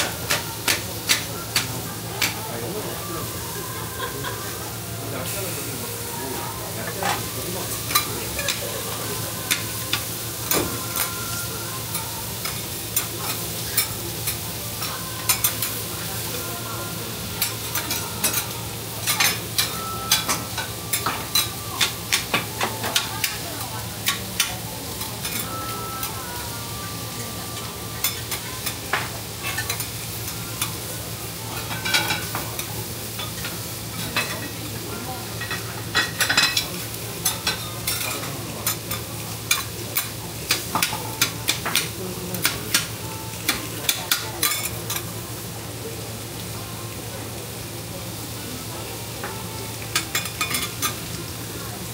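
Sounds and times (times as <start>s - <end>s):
food sizzling on griddle: 0.0s - 51.9s.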